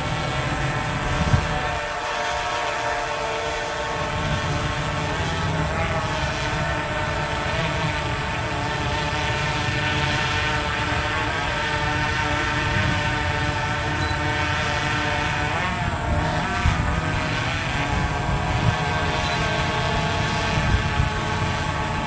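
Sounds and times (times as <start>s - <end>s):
electric motor propeller whining: 0.0s - 22.0s
low wind rumble: 0.0s - 22.0s.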